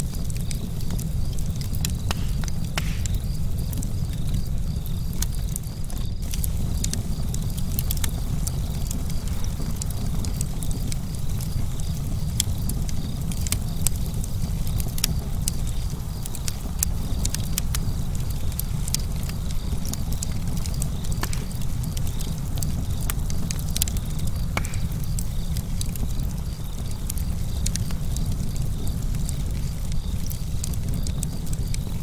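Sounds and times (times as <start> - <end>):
burning wood snapping and popping: 0.0 - 32.0
low rumble of fire: 0.0 - 32.0.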